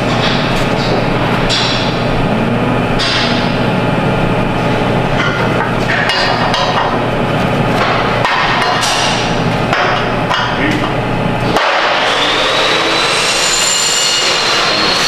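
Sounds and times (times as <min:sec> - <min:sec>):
shop machinery noise: 0:00.0 - 0:15.0.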